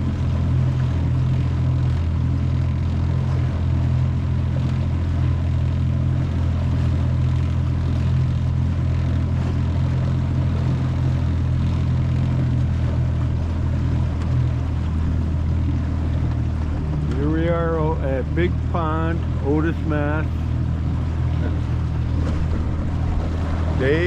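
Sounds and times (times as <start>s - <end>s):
outboard motor droning: 0.0s - 24.0s.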